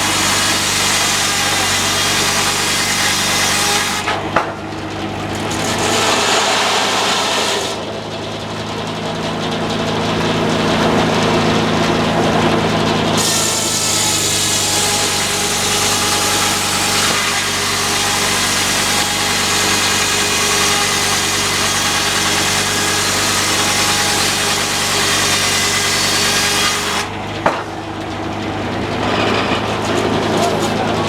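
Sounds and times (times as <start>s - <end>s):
saw blade cutting log: 0.0s - 4.6s, 5.2s - 8.0s, 10.4s - 28.2s, 28.8s - 31.0s
engine running under load: 0.0s - 31.0s.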